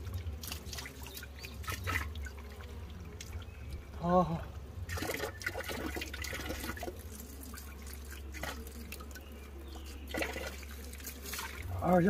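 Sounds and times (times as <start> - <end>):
water poured onto stones: 0.0 - 2.6, 4.9 - 12.0
water trickling over rocks: 0.0 - 12.0.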